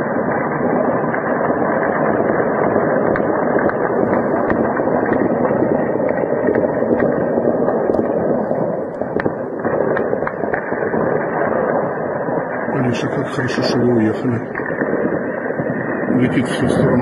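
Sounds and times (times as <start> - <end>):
distant gunfire cracks: 0.0 - 16.1
steady rushing noise: 0.0 - 17.0.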